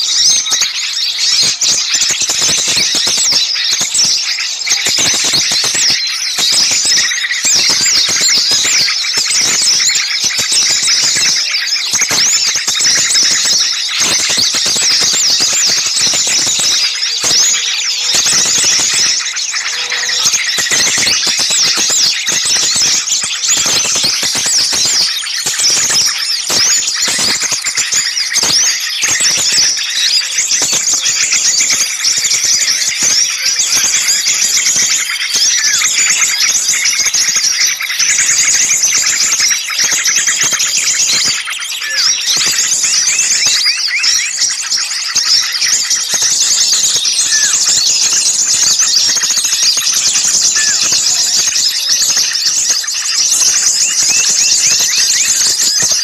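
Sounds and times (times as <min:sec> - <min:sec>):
small songbirds chattering and trilling: 0:00.0 - 0:56.0.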